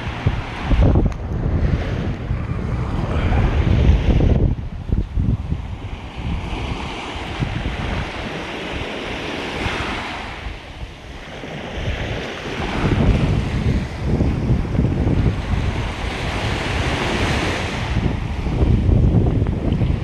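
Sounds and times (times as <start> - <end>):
ocean surf washing on shore: 0.0 - 20.0
wind buffeting microphone: 0.0 - 20.0.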